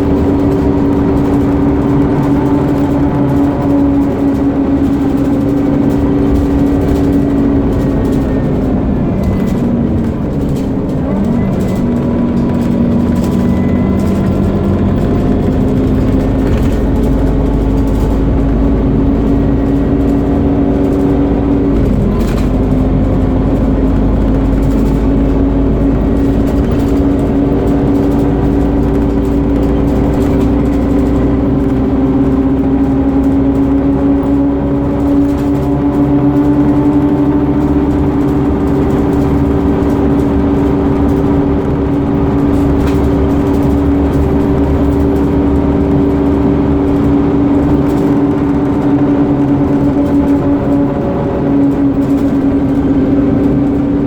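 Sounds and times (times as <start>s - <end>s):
bus engine whining: 0.0s - 54.0s.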